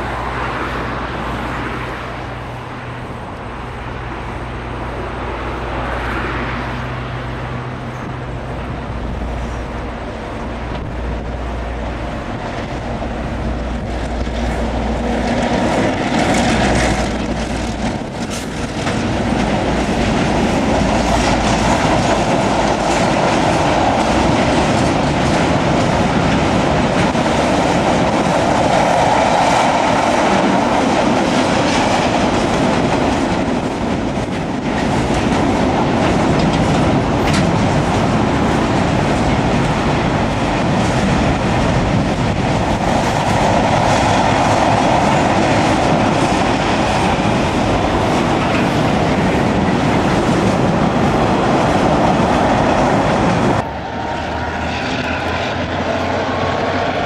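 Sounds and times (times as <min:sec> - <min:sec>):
freight train rolling past: 0:00.0 - 0:57.0
steel wheels on rails: 0:00.0 - 0:57.0.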